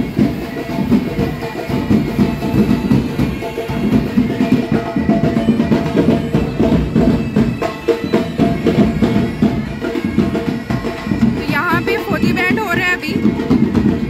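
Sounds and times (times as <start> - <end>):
bagpipes playing: 0.0 - 14.0
snare and bass drum beats: 0.0 - 14.0.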